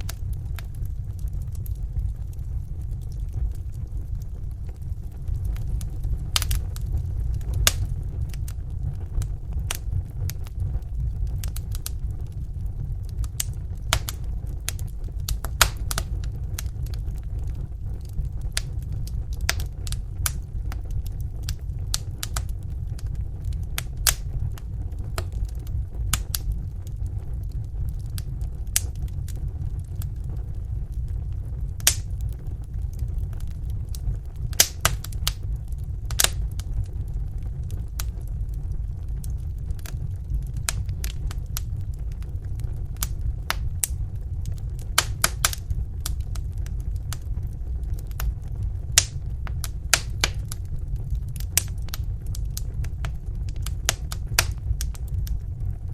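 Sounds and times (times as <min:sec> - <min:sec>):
burning logs crackling and popping: 0:00.0 - 0:55.9
low rumble of flames: 0:00.0 - 0:55.9.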